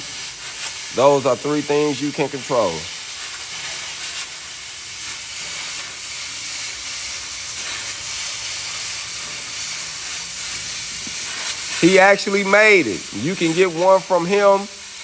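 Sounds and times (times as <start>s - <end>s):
cutting torch hissing: 0.0s - 15.0s.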